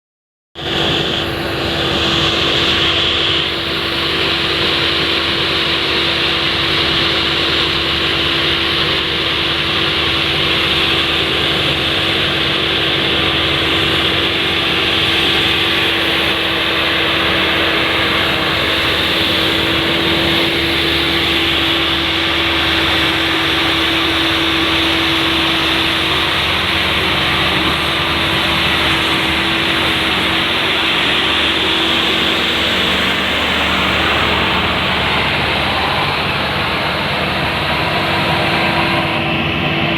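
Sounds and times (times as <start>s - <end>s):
combine harvester drone: 0.6s - 39.9s.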